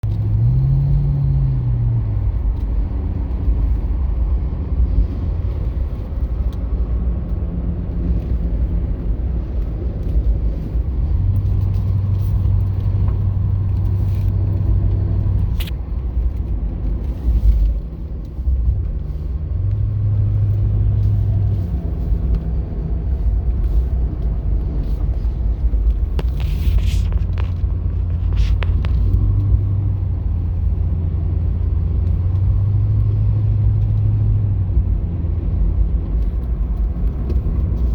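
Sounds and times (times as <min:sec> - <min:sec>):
car driving rumble: 0:00.0 - 0:37.9
engine hum: 0:00.0 - 0:37.9.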